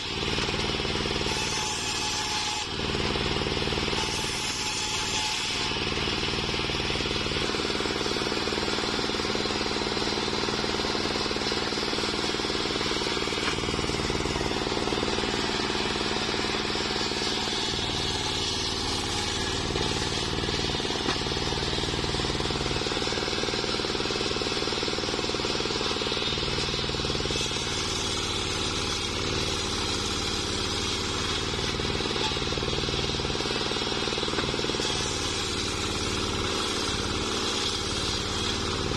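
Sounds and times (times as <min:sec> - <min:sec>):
circular saw cutting log: 0:00.0 - 0:38.9
small engine running: 0:00.0 - 0:38.9.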